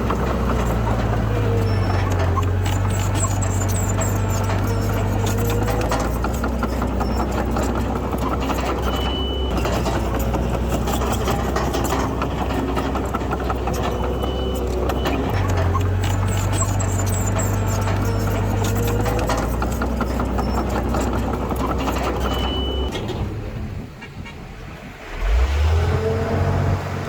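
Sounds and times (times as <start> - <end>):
high squeaks: 0.0 - 23.0
heavy machinery diesel engine: 0.0 - 27.0.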